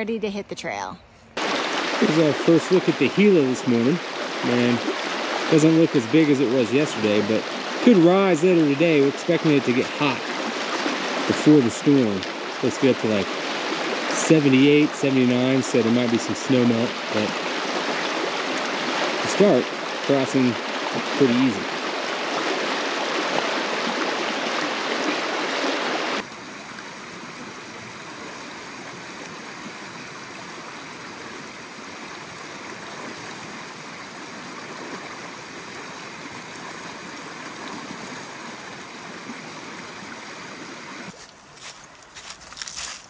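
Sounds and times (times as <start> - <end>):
river water rushing: 1.4 - 41.8.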